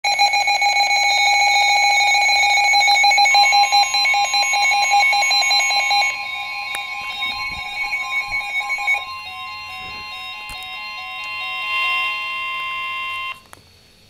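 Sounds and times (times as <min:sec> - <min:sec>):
rapidly pulsing beeping tone: 0:00.2 - 0:13.4
steady high electronic tone: 0:00.7 - 0:13.4.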